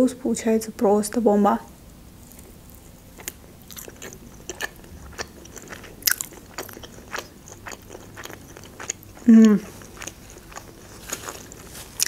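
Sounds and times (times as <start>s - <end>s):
person chewing meat: 2.2s - 12.0s.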